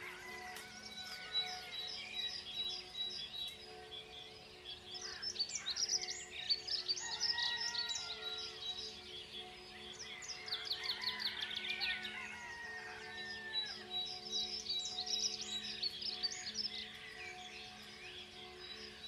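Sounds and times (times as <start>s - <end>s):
soft music drone: 0.0s - 19.0s
songbirds singing: 0.0s - 19.0s.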